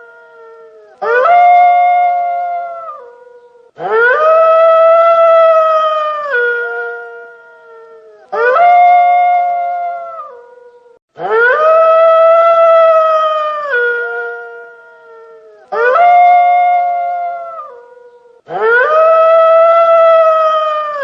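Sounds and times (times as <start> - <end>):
wolf howling: 0.0 - 21.0.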